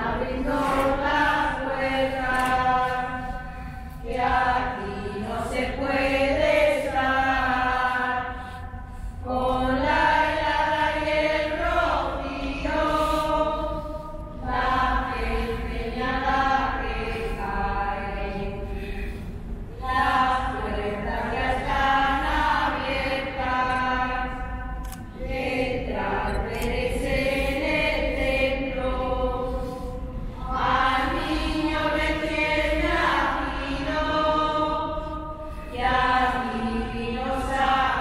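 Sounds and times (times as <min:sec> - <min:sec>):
women and children singing carol: 0:00.0 - 0:38.0.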